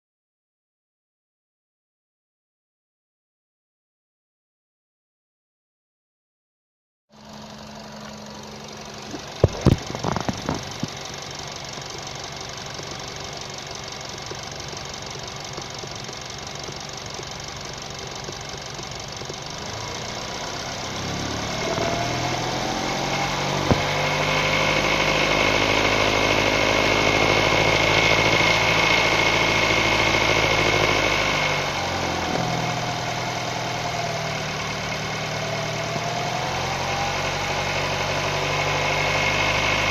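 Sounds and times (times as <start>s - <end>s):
car engine idling and revving: 7.1s - 39.9s
high steady engine whine: 7.2s - 39.9s.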